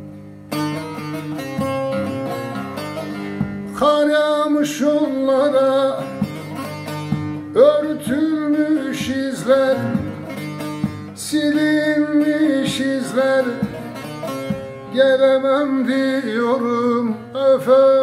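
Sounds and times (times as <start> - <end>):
plucked lute melody: 0.0 - 18.0
man singing folk song: 2.0 - 18.0.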